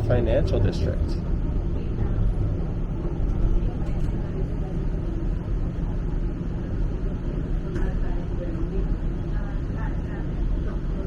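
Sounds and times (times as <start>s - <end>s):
streetcar interior rumble: 0.0s - 11.0s.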